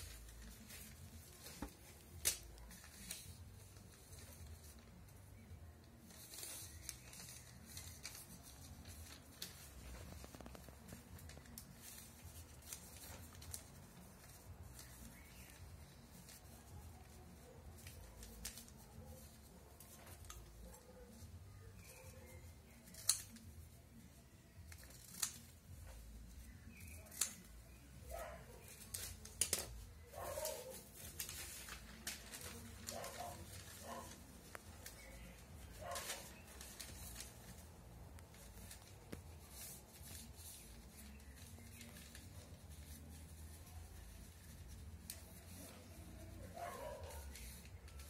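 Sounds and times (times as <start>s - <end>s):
scissors snipping paper: 0.0s - 5.0s, 6.0s - 21.2s, 21.8s - 23.6s, 24.6s - 48.0s
paper rustling: 0.0s - 48.0s.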